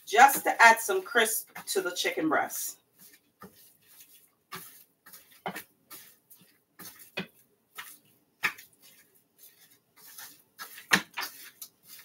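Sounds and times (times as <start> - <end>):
plastic glove rustling in powder: 0.0 - 12.0.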